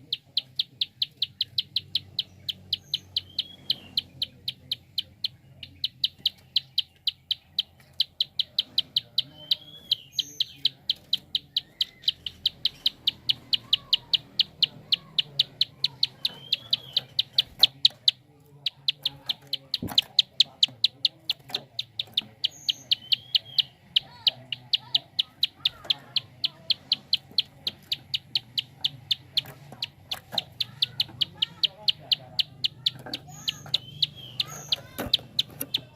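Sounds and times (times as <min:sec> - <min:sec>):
bird fast clicking call: 0:00.0 - 0:35.9
faint birds chirping: 0:00.0 - 0:35.9.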